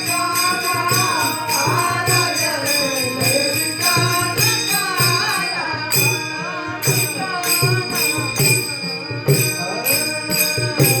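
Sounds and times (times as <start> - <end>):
hand cymbals ringing: 0.0 - 11.0
person singing: 0.0 - 11.0.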